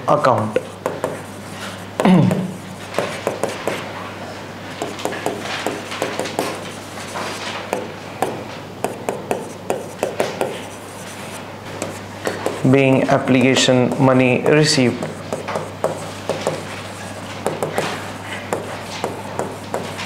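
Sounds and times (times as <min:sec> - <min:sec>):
pen scratching and tapping: 0:00.3 - 0:01.4, 0:02.0 - 0:03.8, 0:04.8 - 0:20.0.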